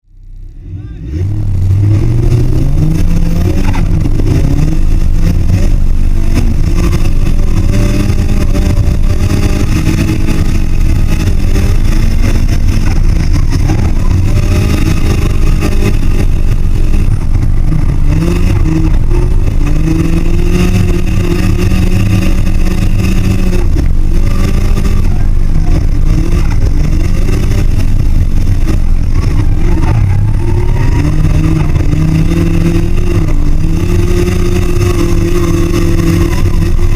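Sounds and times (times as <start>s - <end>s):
car engine revving hard: 0.6s - 36.9s.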